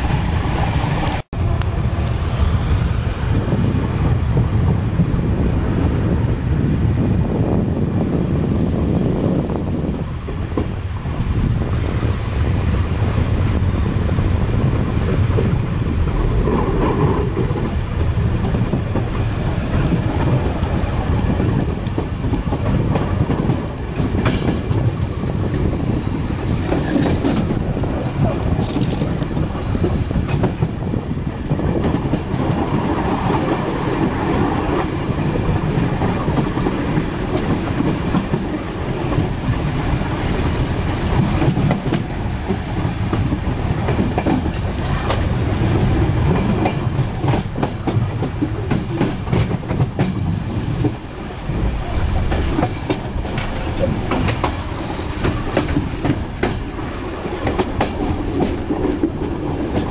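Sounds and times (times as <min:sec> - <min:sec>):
train wheels rumbling: 0:00.0 - 0:59.9
clickety-clack over rail joints: 0:02.8 - 0:59.9.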